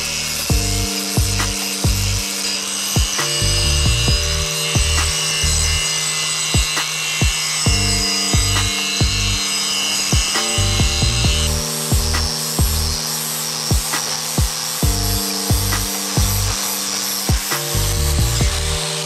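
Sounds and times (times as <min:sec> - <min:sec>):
background music with beat: 0:00.0 - 0:19.0
power tool grinding steel: 0:00.0 - 0:19.0.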